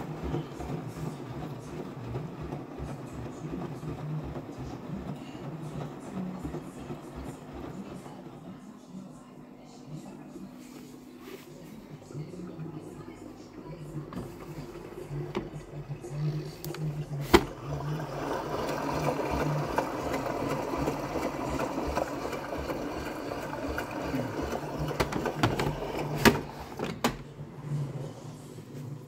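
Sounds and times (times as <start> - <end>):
washing machine pulsing hum: 0.0 - 29.0.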